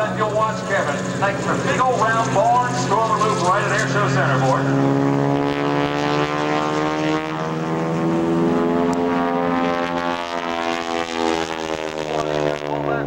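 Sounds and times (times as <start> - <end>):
propeller plane droning overhead: 0.0 - 13.0.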